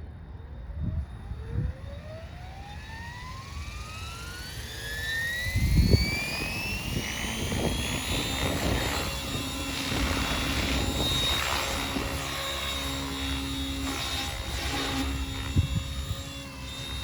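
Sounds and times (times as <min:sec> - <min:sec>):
rc helicopter rotor whine: 0:00.0 - 0:17.0.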